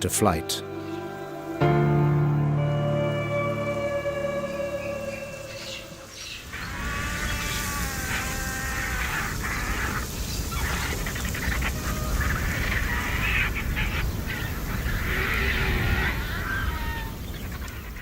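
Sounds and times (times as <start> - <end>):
harsh animal calls: 0.7 - 17.8.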